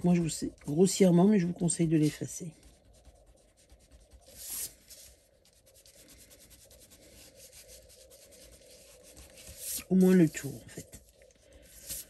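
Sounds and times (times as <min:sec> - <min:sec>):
eraser rubbing on card: 0:00.0 - 0:12.0.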